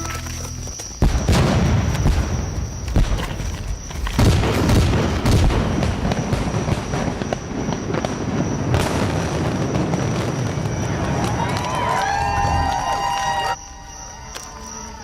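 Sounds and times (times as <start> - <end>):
fireworks booming and cracking: 0.9 - 13.1.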